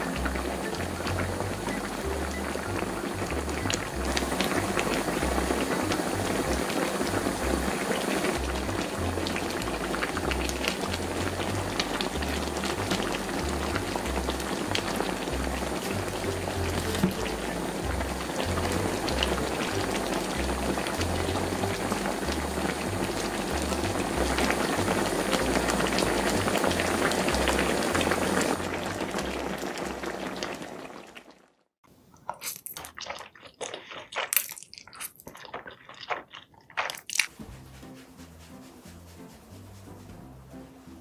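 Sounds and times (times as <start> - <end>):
soft background music: 0.0 - 30.1, 37.3 - 41.0
sauce bubbling in a pot: 0.0 - 37.3.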